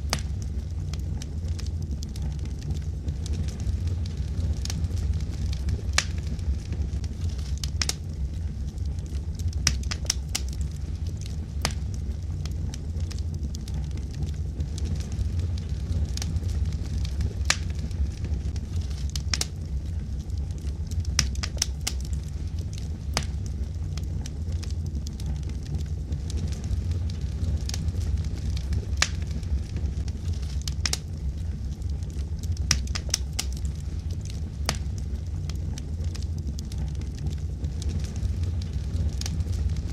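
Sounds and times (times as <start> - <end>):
fire rumbling in fireplace: 0.0 - 39.9
logs crackling and popping: 0.0 - 39.9.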